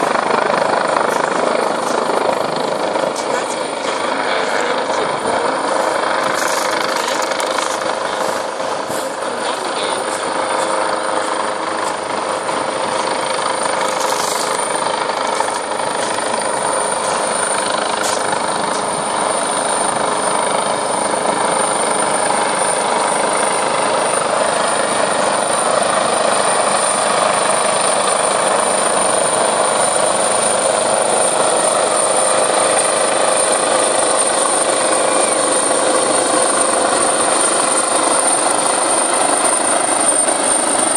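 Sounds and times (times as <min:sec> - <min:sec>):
helicopter hovering: 0:00.0 - 0:40.9.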